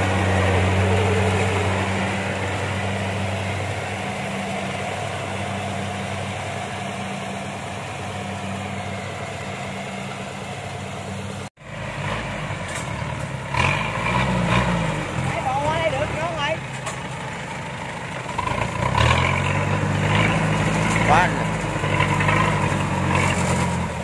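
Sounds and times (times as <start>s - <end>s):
cart engine running: 0.0s - 24.0s
combine harvester engine humming: 0.0s - 24.0s.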